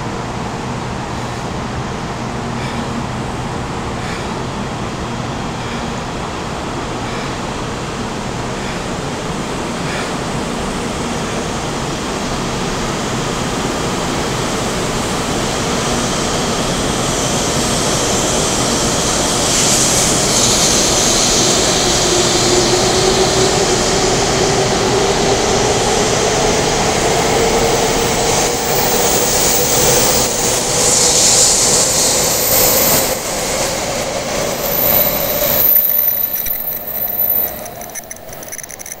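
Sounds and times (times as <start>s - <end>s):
high-speed train accelerating: 0.0s - 39.0s.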